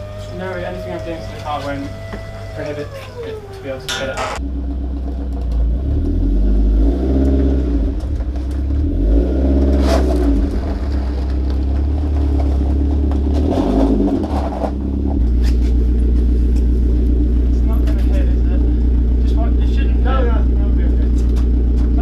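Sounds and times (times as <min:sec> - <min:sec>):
vehicle engine revving: 0:00.0 - 0:22.0.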